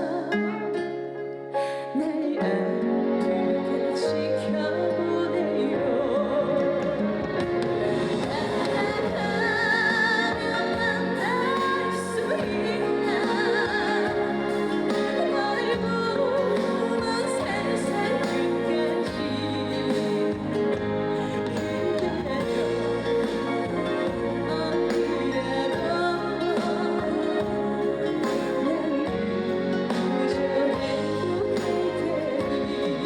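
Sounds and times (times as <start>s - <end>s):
musical accompaniment: 0.0s - 33.0s
woman singing a ballad: 0.0s - 33.0s.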